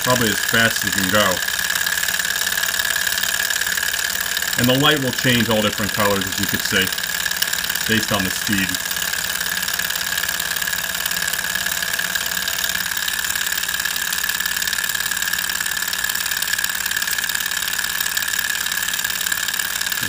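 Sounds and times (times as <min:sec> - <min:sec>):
stirling engine whirring: 0:00.0 - 0:17.3.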